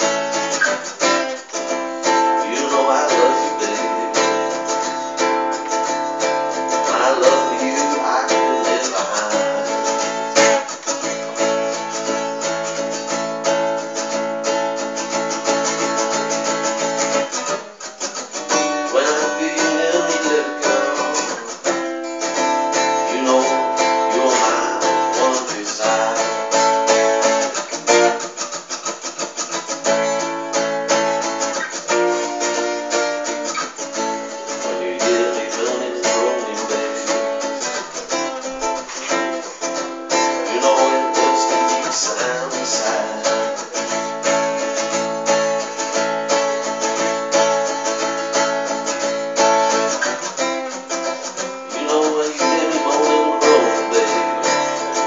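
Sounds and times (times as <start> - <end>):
acoustic guitar blues: 0.0 - 55.0.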